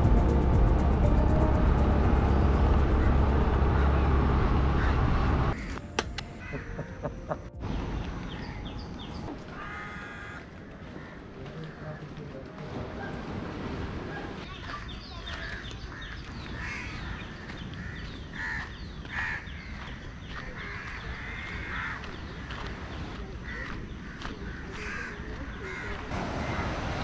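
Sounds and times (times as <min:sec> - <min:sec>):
birds calling: 0:02.3 - 0:12.2, 0:14.1 - 0:26.8.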